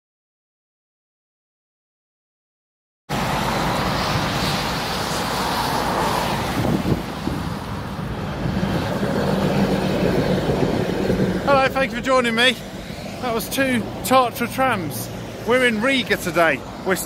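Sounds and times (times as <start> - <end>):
road traffic passing: 3.1 - 17.0
tram humming on rails: 3.1 - 17.0.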